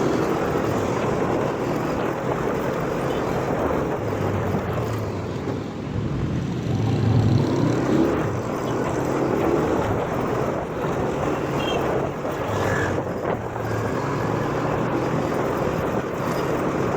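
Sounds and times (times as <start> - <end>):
road noise: 0.0 - 16.9.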